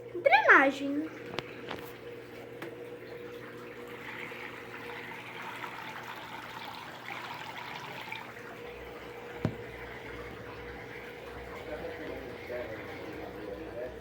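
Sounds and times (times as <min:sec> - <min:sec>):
drain pump hum: 0:00.0 - 0:14.0
water draining: 0:00.0 - 0:14.0.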